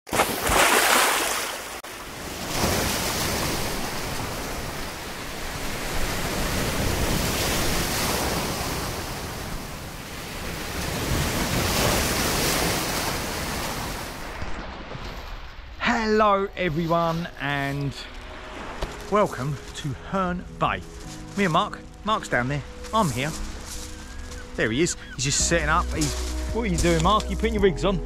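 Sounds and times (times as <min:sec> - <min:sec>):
waves breaking on shore: 0:00.1 - 0:15.9, 0:16.9 - 0:27.2.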